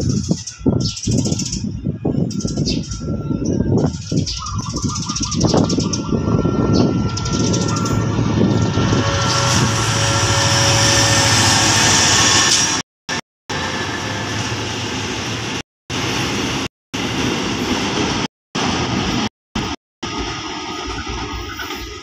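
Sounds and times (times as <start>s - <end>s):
diesel locomotive engine drone: 1.6s - 22.0s
train wheels rumbling on rails: 2.5s - 12.8s, 13.5s - 22.0s.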